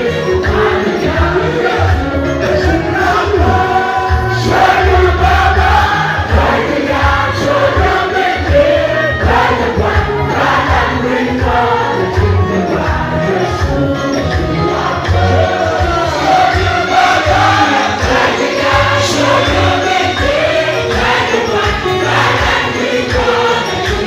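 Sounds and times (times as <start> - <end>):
group singing gospel: 0.0 - 24.0
pulsing bass: 0.1 - 24.0.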